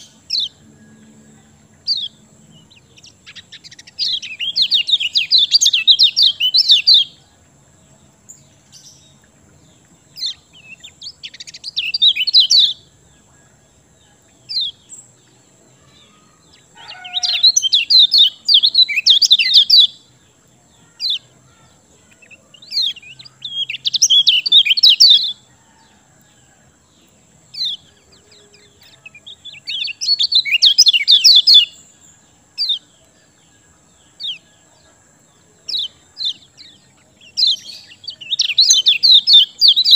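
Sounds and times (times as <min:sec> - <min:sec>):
songbird trilling: 0:00.0 - 0:26.5, 0:27.5 - 0:39.9
bird chirps: 0:00.0 - 0:39.9.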